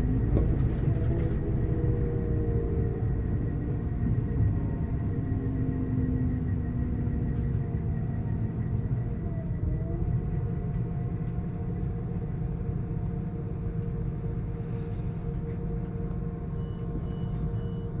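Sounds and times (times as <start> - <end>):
constant hum: 0.0 - 18.0
train rumbling: 0.0 - 18.0.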